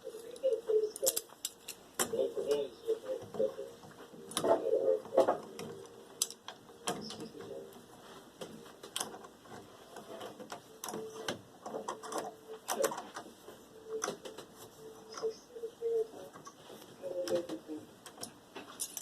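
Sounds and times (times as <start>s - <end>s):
faint hum: 0.0s - 18.3s.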